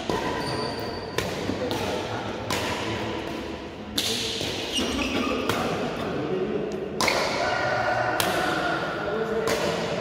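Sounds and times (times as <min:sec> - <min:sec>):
rackets hitting shuttlecock: 0:00.0 - 0:06.1, 0:06.7 - 0:07.5, 0:08.2 - 0:08.7, 0:09.3 - 0:10.0.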